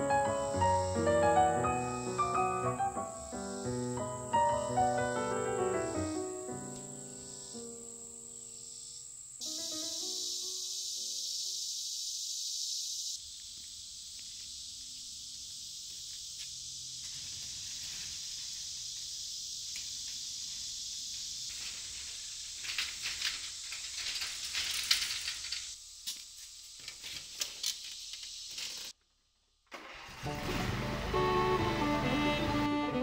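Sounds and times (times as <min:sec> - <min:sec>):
high-pitched insect chorus: 0:00.0 - 0:28.9.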